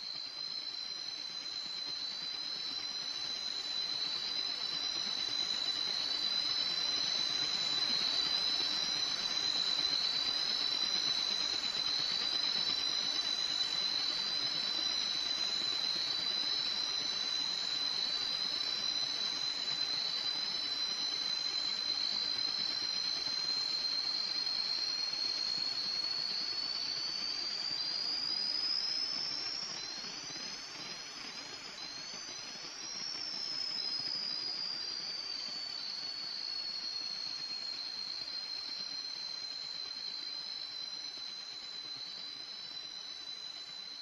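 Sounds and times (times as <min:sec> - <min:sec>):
high whistling tone: 0:00.0 - 0:44.0.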